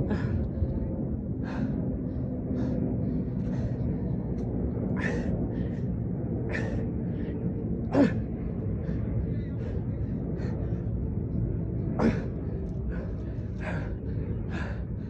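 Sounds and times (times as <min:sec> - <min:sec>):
hard rhythmic breathing: 0:00.0 - 0:15.0
low rumble: 0:00.0 - 0:15.0.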